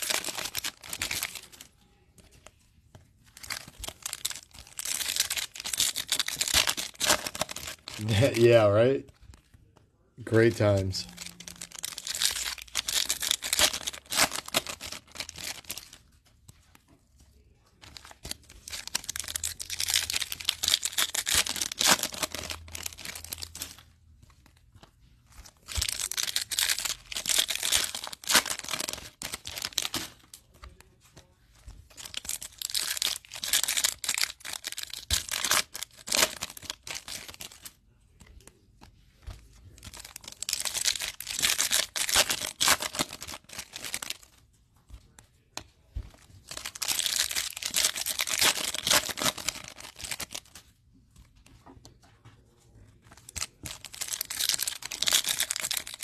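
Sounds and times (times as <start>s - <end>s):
foil wrappers crinkling and tearing: 0.0s - 2.6s, 3.2s - 9.6s, 10.3s - 23.9s, 24.6s - 38.5s, 39.4s - 45.2s, 46.1s - 50.7s, 53.0s - 56.0s.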